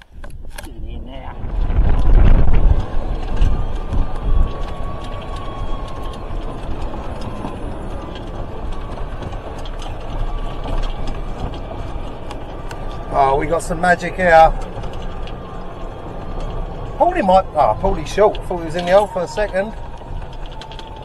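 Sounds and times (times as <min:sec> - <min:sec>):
golf buggy rumble: 0:00.2 - 0:21.0.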